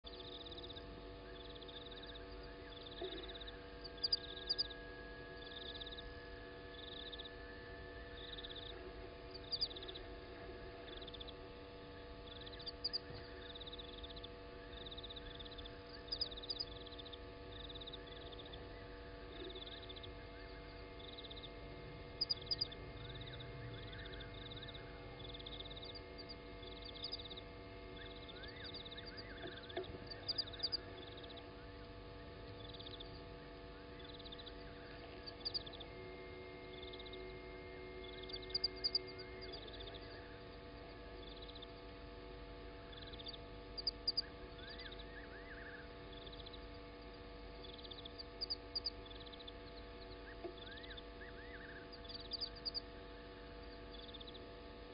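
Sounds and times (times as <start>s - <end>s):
faint steady hum: 0.0s - 54.9s
insects chirping: 0.1s - 54.9s.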